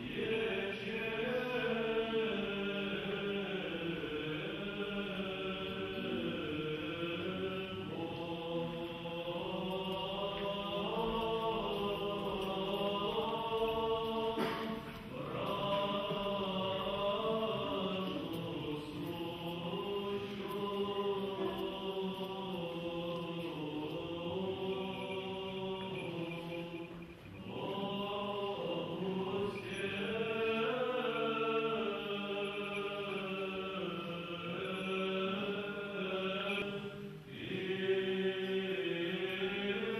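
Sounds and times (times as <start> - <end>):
choir singing chant in harmony: 0.0 - 39.9.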